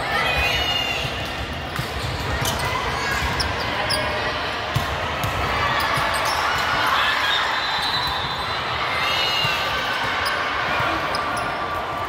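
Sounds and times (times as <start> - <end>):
sneakers squeaking: 0.6 - 12.0.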